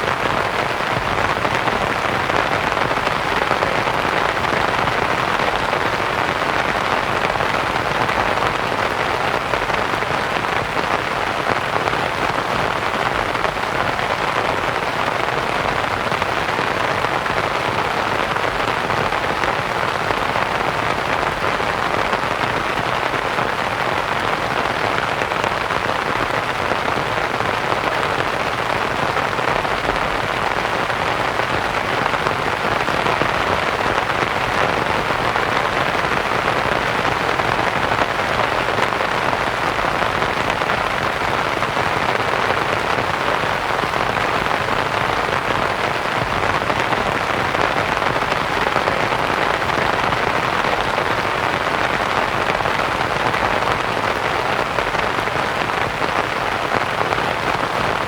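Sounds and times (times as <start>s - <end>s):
rain pattering on canvas tent: 0.0s - 58.0s.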